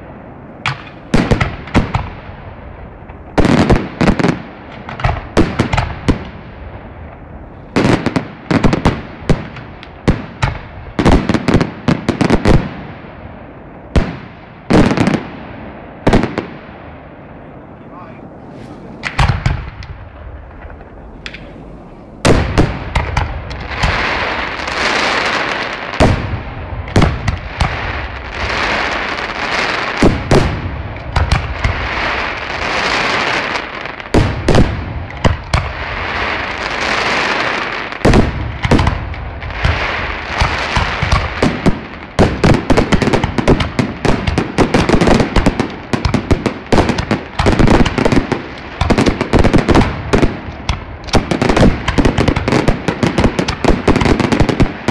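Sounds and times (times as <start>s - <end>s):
crackling hiss of burning stars: 0.0s - 54.9s.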